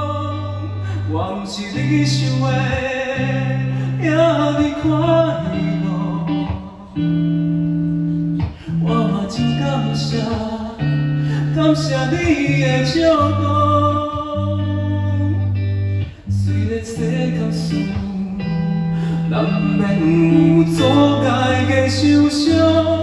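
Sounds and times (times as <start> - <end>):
guitar playing: 0.0 - 23.0
held bass notes: 0.0 - 23.0
person singing: 0.0 - 23.0.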